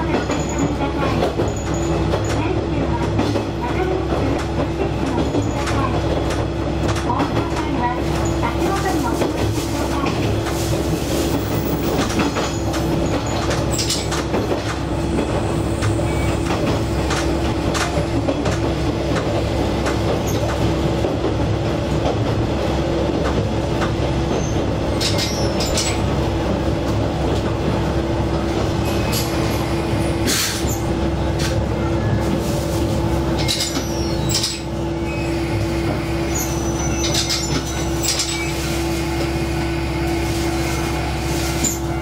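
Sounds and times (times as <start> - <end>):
rail noise: 0.0 - 42.0
railcar engine drone: 0.0 - 42.0.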